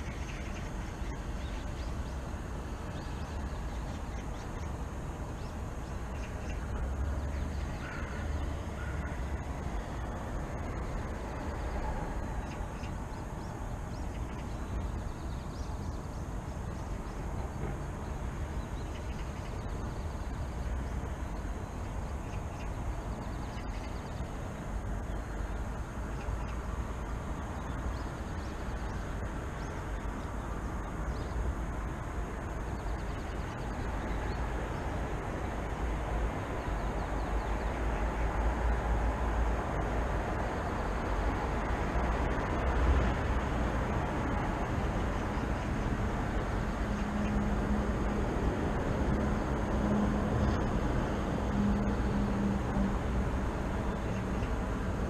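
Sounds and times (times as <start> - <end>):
city traffic rumble: 0.0 - 55.0
low engine hum: 0.0 - 55.0.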